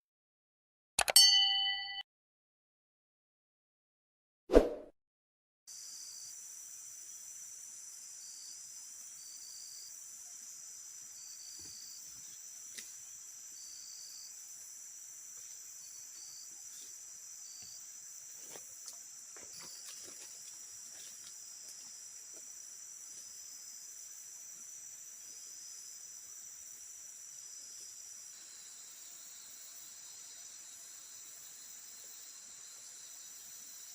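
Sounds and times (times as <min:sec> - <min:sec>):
high-pitched insect chorus: 0:05.7 - 0:33.9
pulsing insect call: 0:05.7 - 0:33.9.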